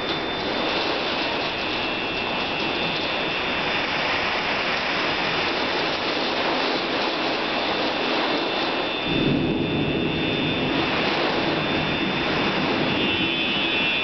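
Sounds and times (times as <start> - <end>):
tornado wind rushing: 0.0 - 14.0.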